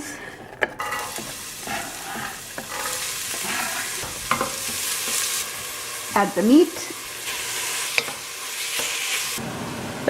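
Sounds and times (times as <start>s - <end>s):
stirring clicks: 0.0s - 8.2s
onions sizzling in hot oil: 0.8s - 9.9s.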